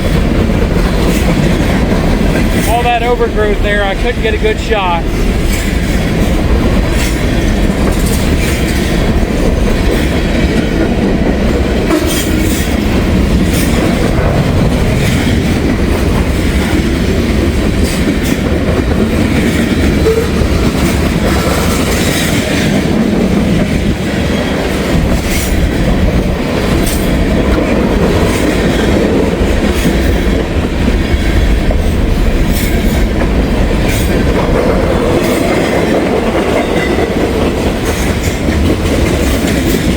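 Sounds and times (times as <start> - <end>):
train cars rumbling past: 0.0 - 39.9.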